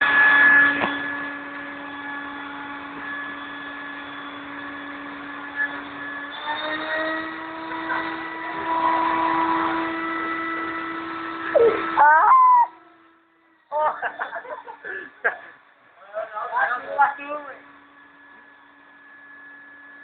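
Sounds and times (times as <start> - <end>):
vacuum cleaner motor whining: 0.0 - 20.0.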